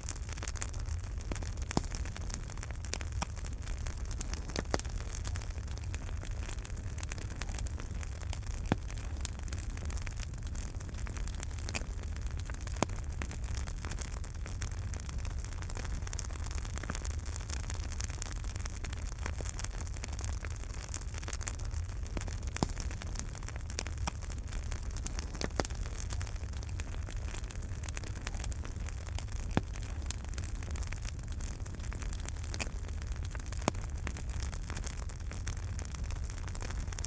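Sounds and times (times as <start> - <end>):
fire pops: 0.0 - 37.0
wood fire crackling: 0.0 - 37.0.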